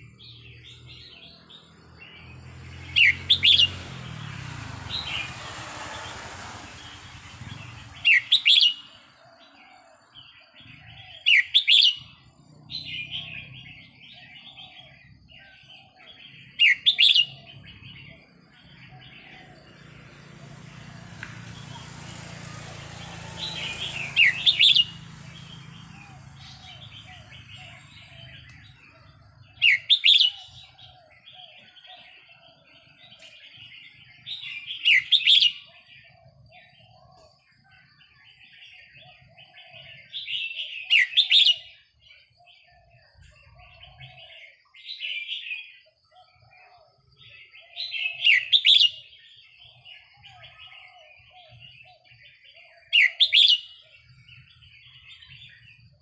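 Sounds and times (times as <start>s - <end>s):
chattering bird calls: 0.0s - 19.8s, 20.5s - 56.0s.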